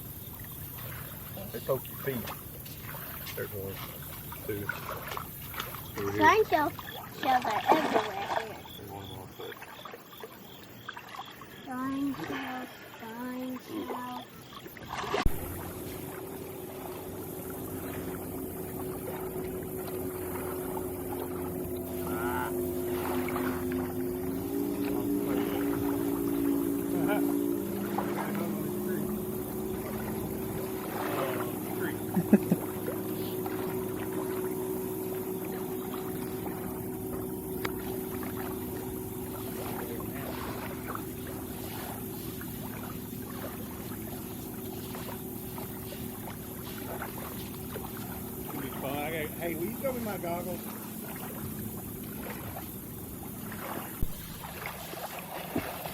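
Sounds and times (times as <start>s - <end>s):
motorboat engine humming: 0.0s - 55.9s
water noise: 0.0s - 55.9s
wind: 0.0s - 55.9s.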